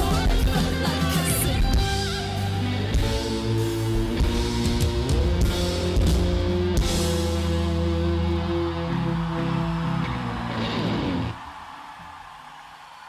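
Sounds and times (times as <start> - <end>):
rock band playing: 0.0 - 11.4.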